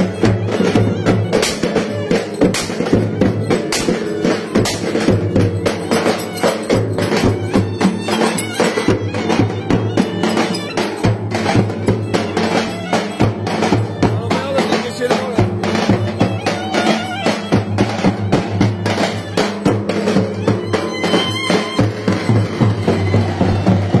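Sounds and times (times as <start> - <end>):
large drum beaten with sticks: 0.0 - 24.0.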